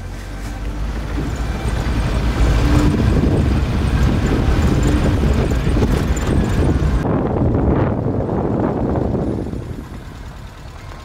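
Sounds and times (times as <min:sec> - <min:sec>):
vehicle rumbling on gravel road: 0:00.0 - 0:11.0
wind noise on microphone: 0:01.1 - 0:10.2.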